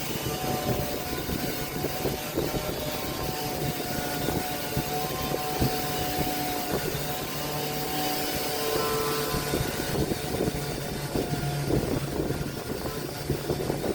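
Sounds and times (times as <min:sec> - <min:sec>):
woodworking power tool running: 0:00.0 - 0:13.9.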